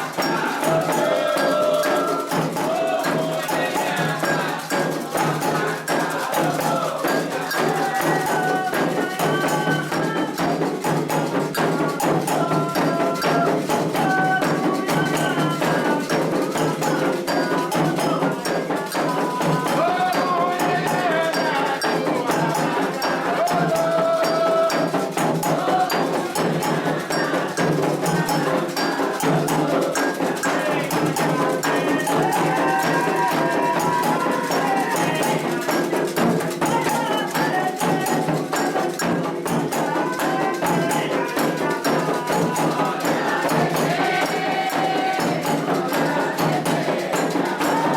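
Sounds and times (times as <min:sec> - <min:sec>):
hand drums beating fast rhythm: 0:00.0 - 0:47.9
voices singing a chant: 0:00.0 - 0:47.9.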